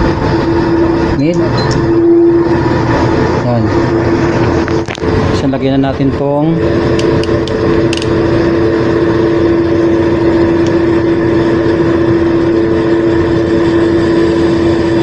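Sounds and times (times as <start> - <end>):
air conditioner fan humming: 0.0 - 15.0.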